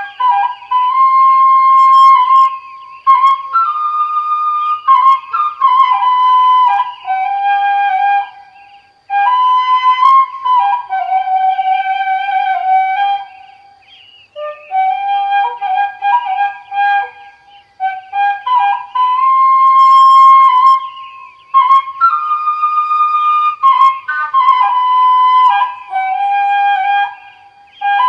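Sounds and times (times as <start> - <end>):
slow flute melody: 0.0 - 28.0.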